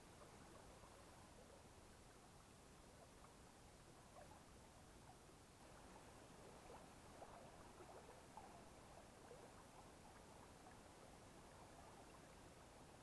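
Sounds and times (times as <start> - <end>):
shallow stream babbling: 0.0 - 13.0.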